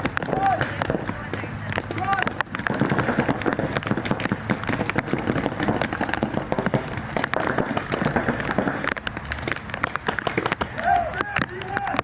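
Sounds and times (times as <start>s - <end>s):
background noise: 0.0s - 12.0s
paintball markers firing: 0.0s - 12.0s.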